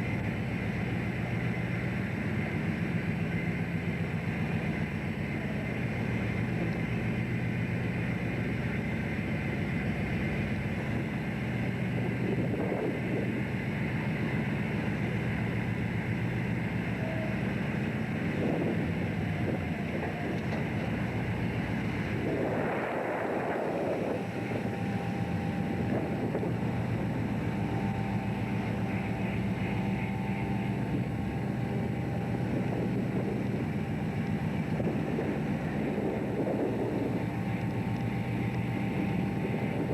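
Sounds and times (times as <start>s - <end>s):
boat engine running: 0.0s - 39.9s
sea noise: 0.0s - 39.9s
wind: 0.0s - 39.9s.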